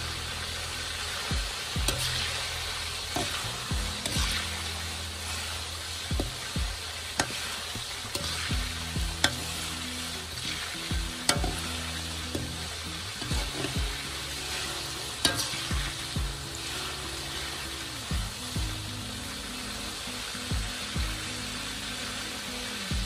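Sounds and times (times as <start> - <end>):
meat sizzling in hot oil: 0.0 - 23.0.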